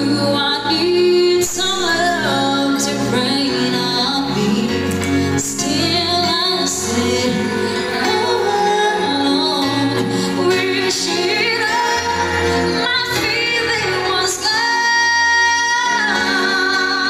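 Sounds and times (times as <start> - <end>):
keyboard: 0.0 - 17.0
woman singing into microphone: 0.0 - 17.0.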